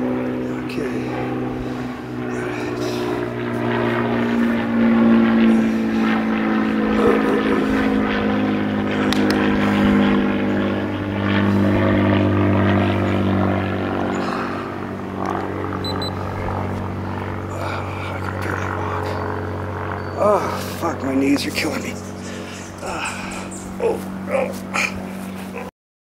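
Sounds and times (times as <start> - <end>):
model airplane engine running: 0.0 - 25.7.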